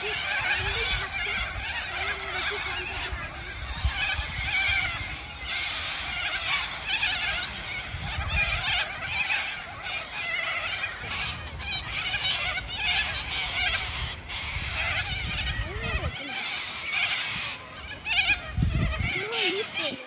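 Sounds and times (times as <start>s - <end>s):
cockatoos screeching: 0.0s - 20.0s.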